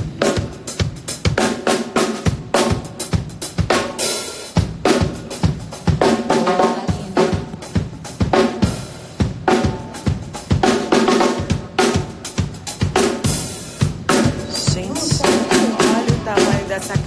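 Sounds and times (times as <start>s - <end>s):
drum kit playing: 0.0s - 17.0s.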